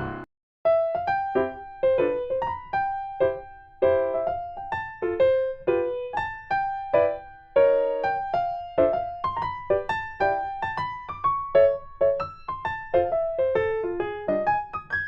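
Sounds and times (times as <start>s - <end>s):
piano playing light melody: 0.0s - 15.0s.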